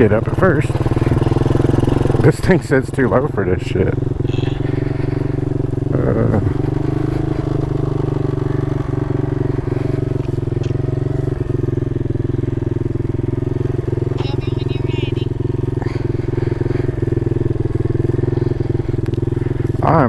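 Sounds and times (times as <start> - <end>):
small motorcycle engine idling: 0.0 - 20.0.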